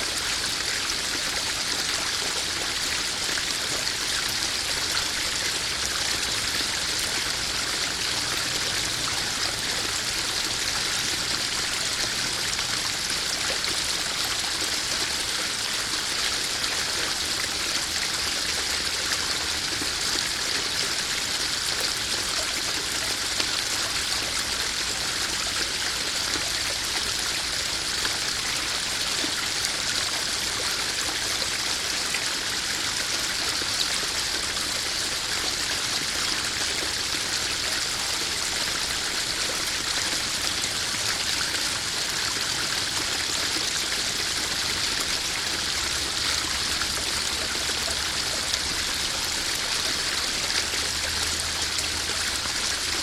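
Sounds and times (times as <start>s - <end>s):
waterfall splashing into pond: 0.0s - 53.0s.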